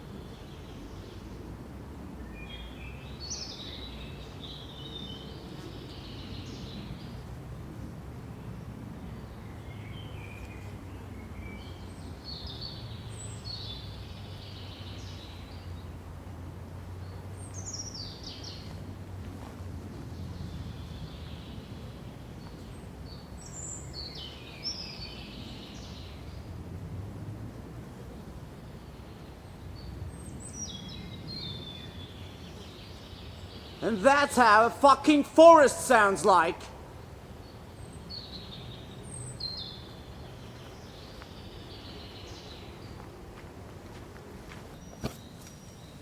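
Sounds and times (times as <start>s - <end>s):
songbirds chirping and trilling: 0.0s - 7.6s, 8.2s - 19.1s, 19.9s - 26.7s, 28.1s - 46.0s
low forest ambience rumble: 0.0s - 44.9s.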